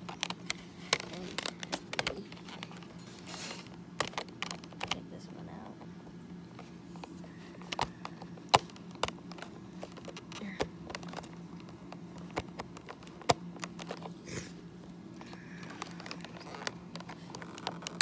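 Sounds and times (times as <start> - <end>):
plastic snapping: 0.0 - 3.0, 3.6 - 5.0, 6.6 - 14.2, 15.2 - 18.0
plastic packaging crackling: 0.0 - 5.3, 6.9 - 18.0
steady low hum: 0.0 - 18.0.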